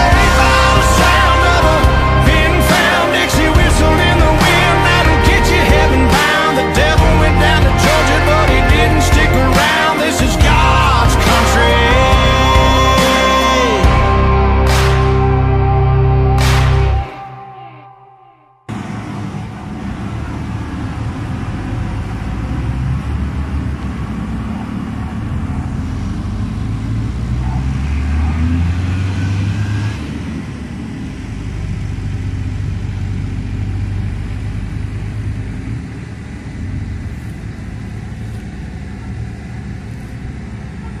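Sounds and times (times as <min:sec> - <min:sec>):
diesel machinery engine rumble: 0:00.0 - 0:17.1, 0:18.7 - 0:41.0.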